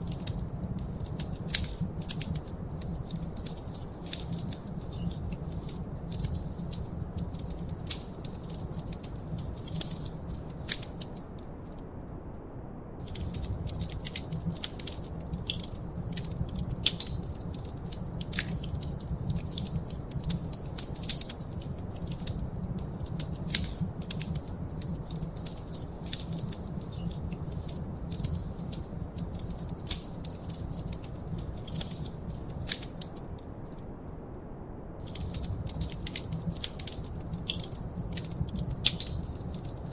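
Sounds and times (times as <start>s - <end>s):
wood fire crackling and popping: 0.0s - 11.8s, 13.0s - 33.8s, 35.0s - 39.9s
low rumble of flames: 0.0s - 39.9s.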